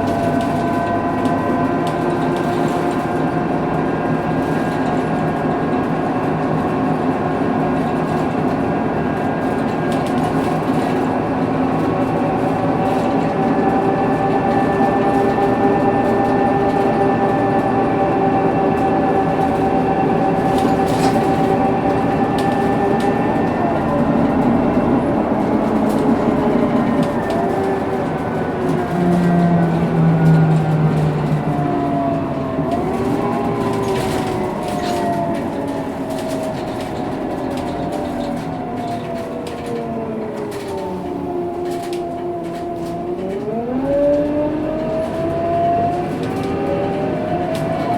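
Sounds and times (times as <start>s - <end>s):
bus differential whining: 0.0s - 47.9s
diesel engine running: 0.0s - 47.9s.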